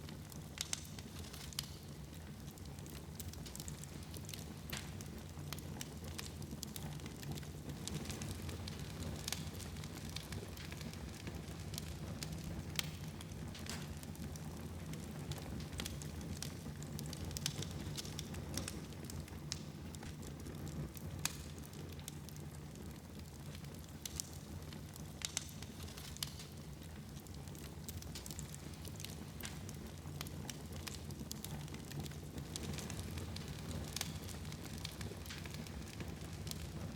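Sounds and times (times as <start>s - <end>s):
fire burning with crackles: 0.0s - 36.9s
fire crackles and pops: 0.0s - 36.9s.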